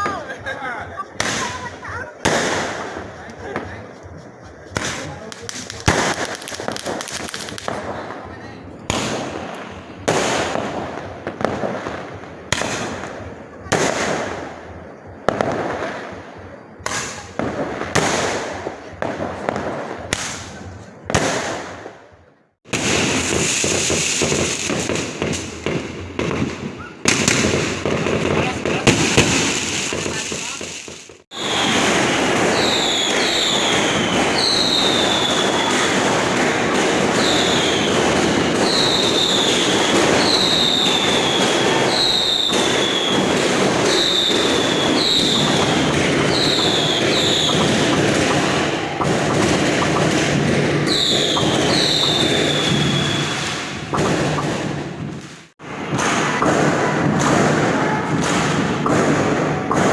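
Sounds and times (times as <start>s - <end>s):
crackle of fireworks bursting: 0.0s - 59.9s
firework bangs: 0.0s - 59.9s
loud firework pops: 1.2s - 22.0s, 22.6s - 59.9s.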